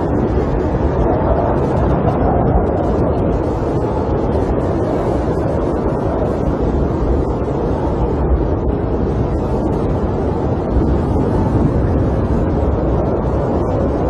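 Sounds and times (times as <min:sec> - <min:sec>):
snowstorm wind blowing: 0:00.0 - 0:14.0.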